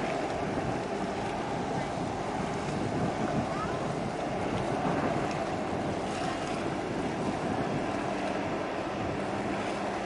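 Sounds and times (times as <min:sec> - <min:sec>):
water washing: 0:00.0 - 0:10.0
wind noise on microphone: 0:00.0 - 0:10.0.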